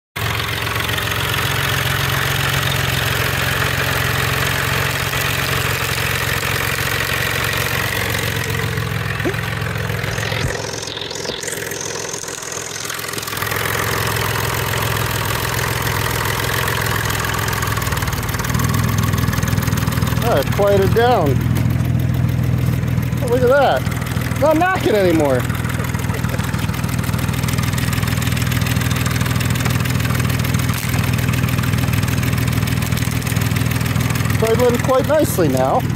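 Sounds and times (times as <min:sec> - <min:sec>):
car engine idling with knock: 0:00.2 - 0:35.9.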